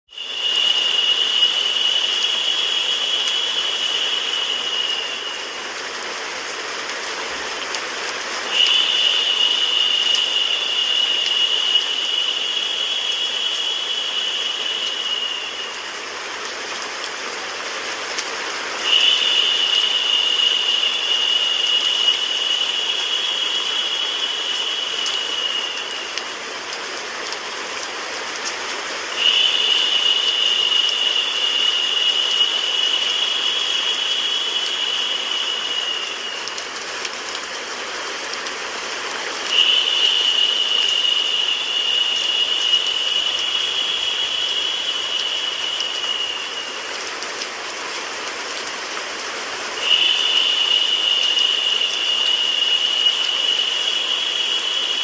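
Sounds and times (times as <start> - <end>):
high narrow hiss: 0.1 - 55.0
rain hiss with drop ticks: 0.1 - 55.0.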